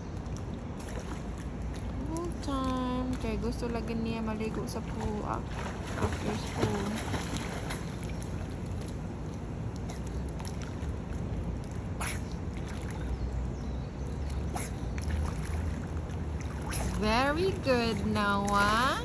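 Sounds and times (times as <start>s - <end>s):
water splashing in a pool: 0.0s - 19.0s.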